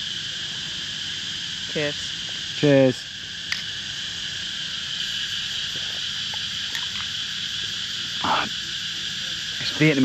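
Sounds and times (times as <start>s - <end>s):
insects and frogs calling: 0.0s - 10.0s.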